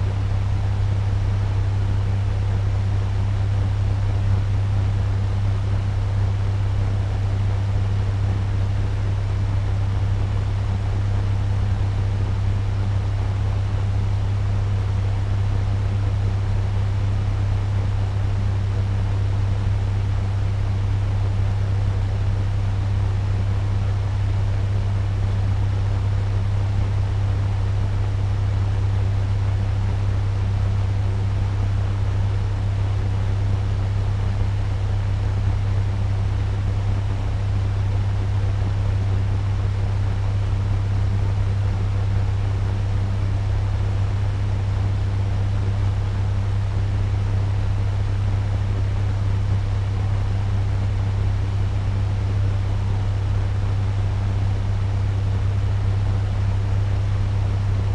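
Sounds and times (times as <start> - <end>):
fan humming with rushing air: 0.0 - 57.9.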